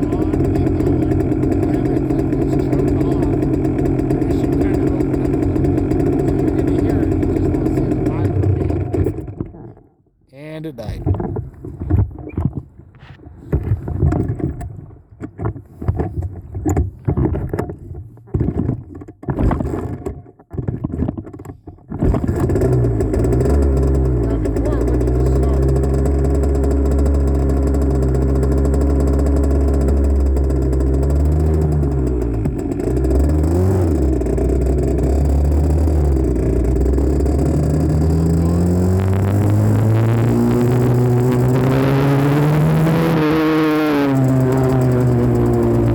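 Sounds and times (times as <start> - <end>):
muffled dirt bike engine: 0.0 - 10.0, 10.8 - 45.9.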